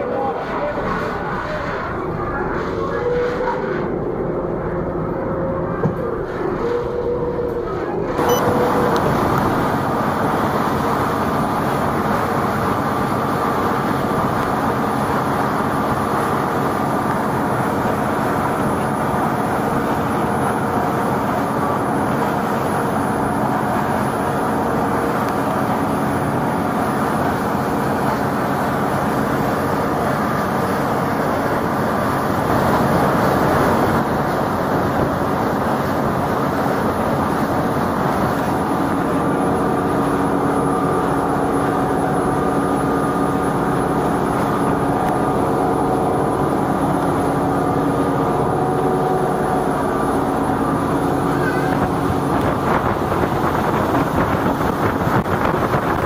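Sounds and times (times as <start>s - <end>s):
boat engine droning: 0.0s - 56.0s
water wash rushing: 8.2s - 56.0s.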